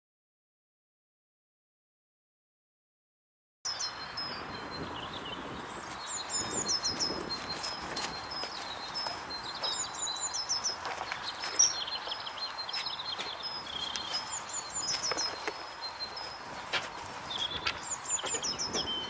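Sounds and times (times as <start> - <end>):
birds chirping and singing: 3.7 - 19.0.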